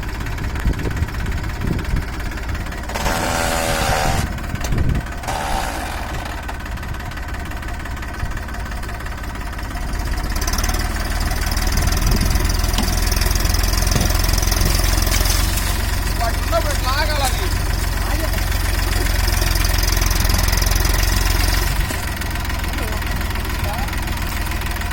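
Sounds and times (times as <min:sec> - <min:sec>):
tractor engine knocking rumble: 0:00.0 - 0:24.9.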